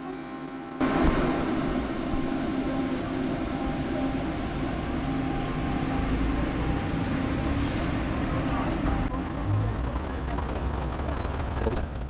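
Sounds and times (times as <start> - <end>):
electric locomotive hum: 0.0 - 11.6
low rumble: 0.8 - 10.6.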